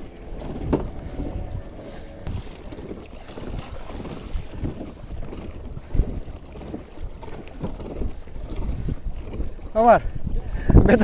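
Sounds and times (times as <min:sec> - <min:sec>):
water lapping against kayak hull: 0:00.0 - 0:11.0
wind buffeting microphone: 0:00.0 - 0:11.0.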